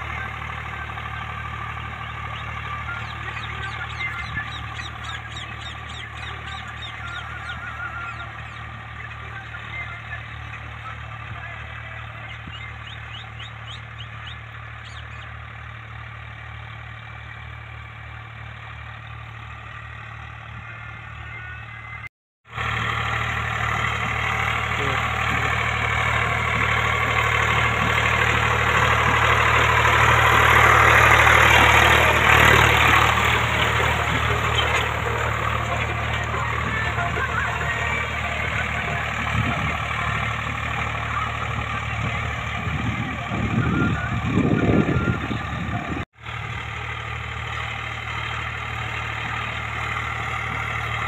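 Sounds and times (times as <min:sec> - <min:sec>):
diesel tractor engine under load: 0:00.0 - 0:51.0.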